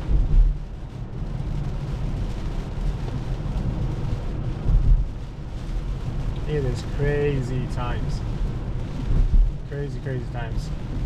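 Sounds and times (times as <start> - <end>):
heavy rain on car: 0.0 - 11.0
tyres rumbling on wet road: 0.0 - 11.0.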